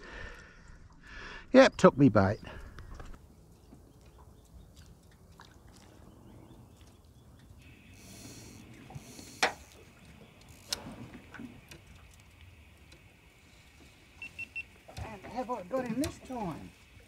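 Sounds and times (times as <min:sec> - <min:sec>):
water lapping against boat hull: 0:02.6 - 0:17.0.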